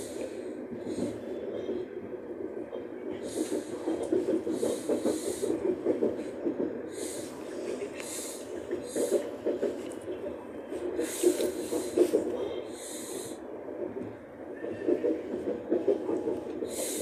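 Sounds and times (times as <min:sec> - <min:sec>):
train rumble and rattle: 0:00.0 - 0:17.0.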